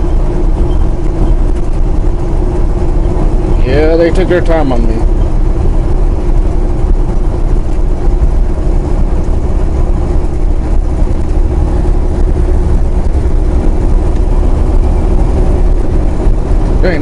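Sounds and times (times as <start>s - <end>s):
road noise: 0.0s - 17.0s
truck diesel engine drone: 0.0s - 17.0s.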